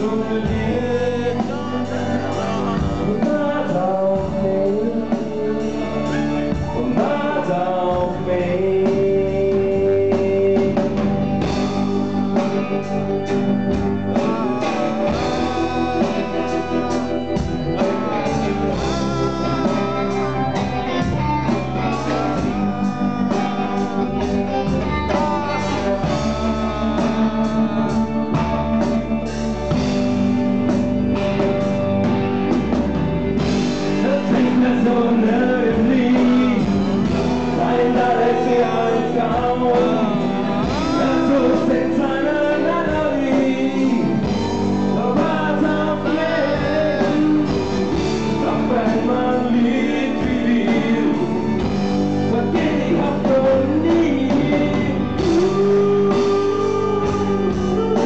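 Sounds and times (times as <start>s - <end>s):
drums: 0.0s - 58.0s
electric guitar: 0.0s - 58.0s
keyboard: 0.0s - 58.0s.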